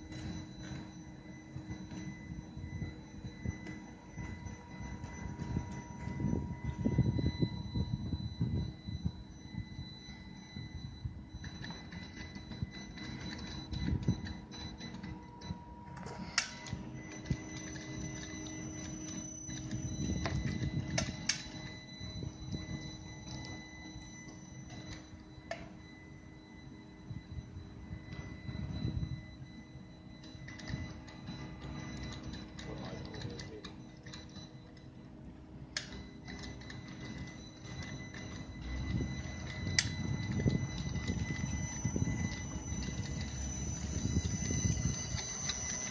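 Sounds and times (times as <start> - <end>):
electric motors whirring: 0.0 - 45.9.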